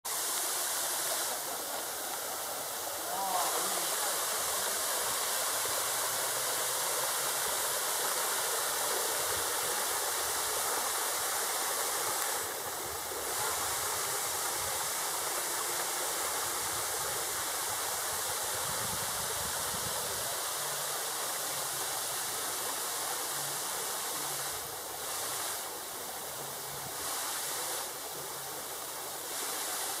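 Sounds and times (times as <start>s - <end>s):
waterfall trickling over rocks: 0.1s - 30.0s.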